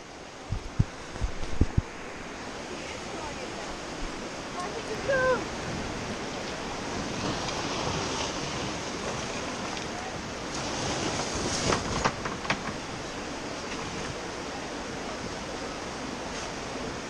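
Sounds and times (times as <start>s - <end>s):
whitewater river rushing: 0.0s - 17.0s
wind buffeting microphone: 0.0s - 17.0s.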